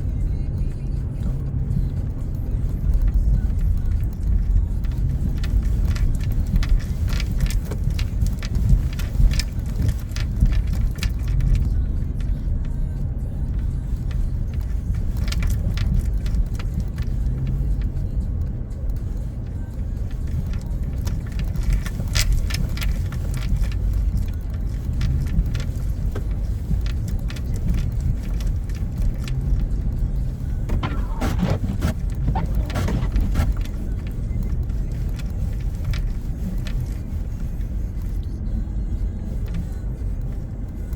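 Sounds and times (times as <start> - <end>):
car engine and road rumble: 0.0 - 40.9
light clicks and taps: 0.1 - 40.9.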